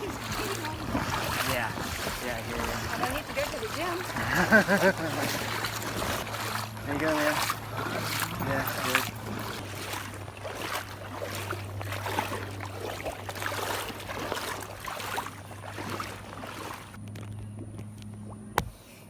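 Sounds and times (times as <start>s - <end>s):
sloshing strides through water: 0.0s - 17.0s
steady low hum: 0.0s - 19.0s.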